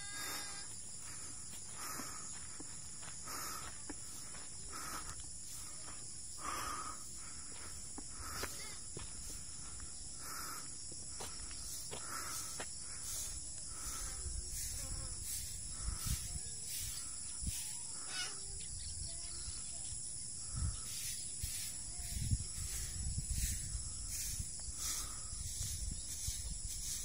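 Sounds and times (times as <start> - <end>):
insects chirring: 0.0 - 27.0
short repeating insect call: 0.0 - 27.0.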